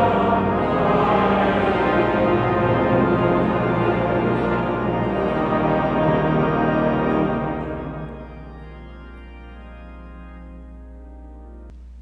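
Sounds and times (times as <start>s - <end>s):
pipe organ chord: 0.0s - 11.8s.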